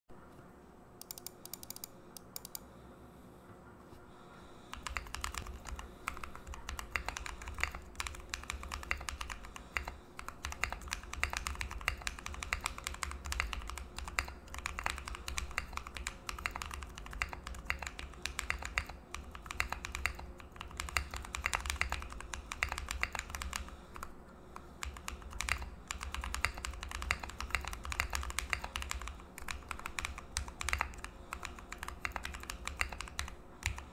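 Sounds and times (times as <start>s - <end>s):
mechanical keyboard typing: 1.0s - 2.6s, 4.7s - 33.9s.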